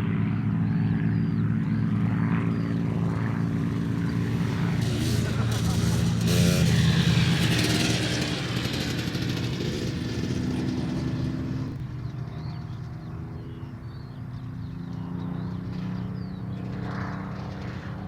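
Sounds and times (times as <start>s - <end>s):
propeller plane flying past: 0.0s - 18.0s.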